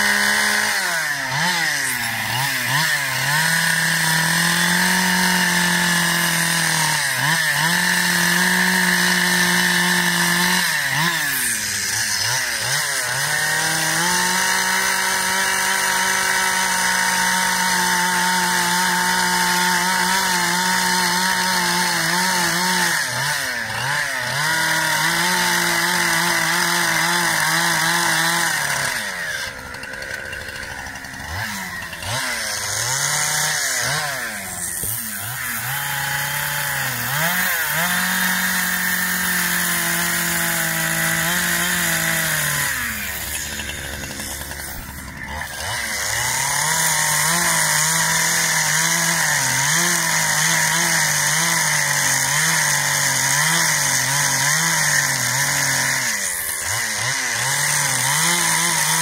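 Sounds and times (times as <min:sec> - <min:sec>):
chainsaw carving wood: 0:00.0 - 0:59.0.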